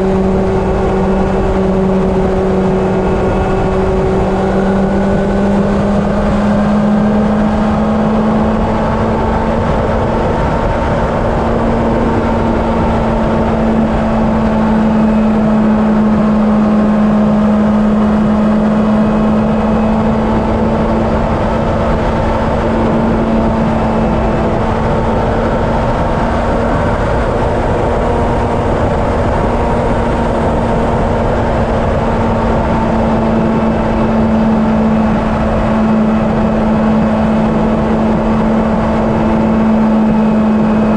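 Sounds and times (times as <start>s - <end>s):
motorcycle engine cruising: 0.0s - 40.9s
wind rushing on microphone: 0.0s - 40.9s.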